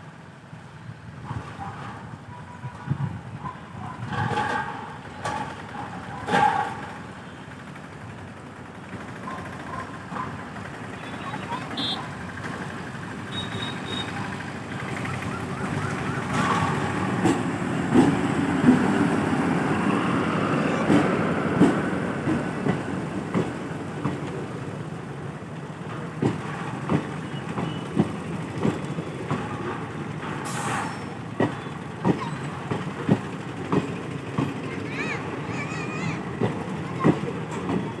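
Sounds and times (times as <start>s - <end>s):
train engine rumbling: 0.0s - 38.0s
wheels clicking over rail joints: 1.2s - 38.0s.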